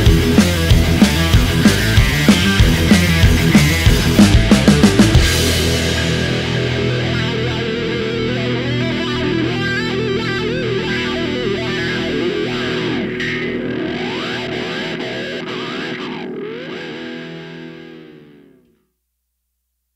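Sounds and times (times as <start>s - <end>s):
rock music with electric guitar: 0.0s - 18.8s.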